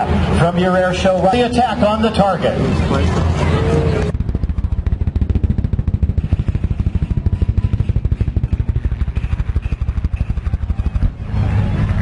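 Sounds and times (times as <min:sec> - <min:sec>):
propeller plane flying past: 0:01.8 - 0:12.0.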